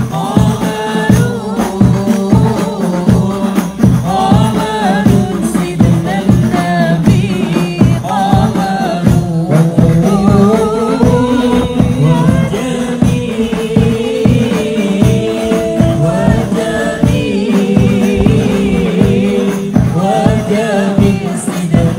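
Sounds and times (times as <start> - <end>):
frame drums beating: 0.0 - 21.9
men singing devotional song: 0.0 - 21.9.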